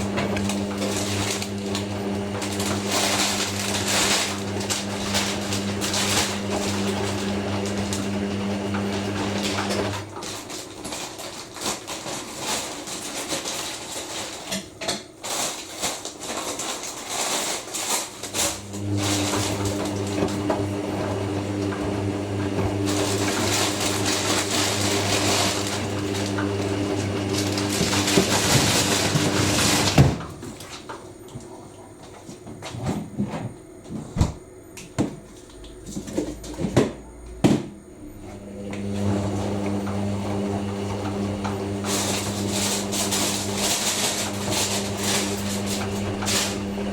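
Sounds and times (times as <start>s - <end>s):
washing machine drain pump humming: 0.0s - 15.1s, 18.2s - 46.9s.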